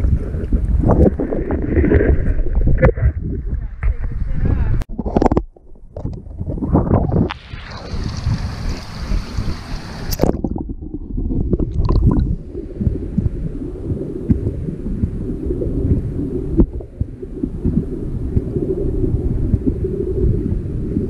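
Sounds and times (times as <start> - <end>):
water splashing: 0.0 - 3.4, 4.9 - 21.0
muffled underwater rumble: 0.0 - 21.0.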